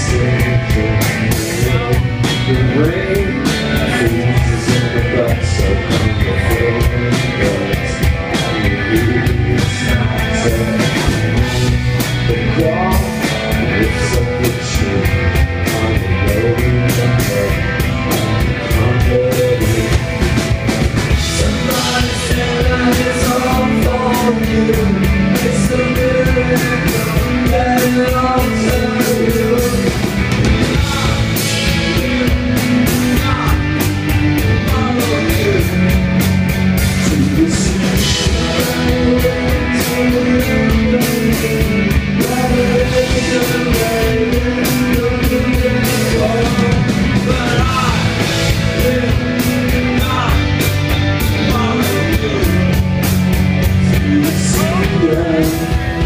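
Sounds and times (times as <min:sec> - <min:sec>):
man singing: 0:00.0 - 0:56.0
rock band playing live: 0:00.0 - 0:56.0.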